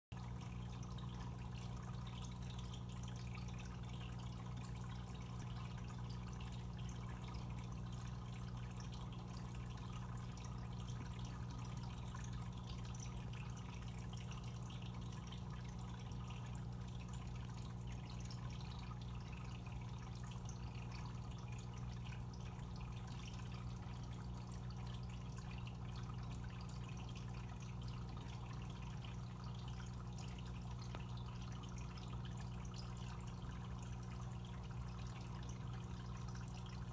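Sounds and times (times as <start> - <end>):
low pump hum: 0.1 - 36.9
water bubbling and trickling: 0.2 - 36.9.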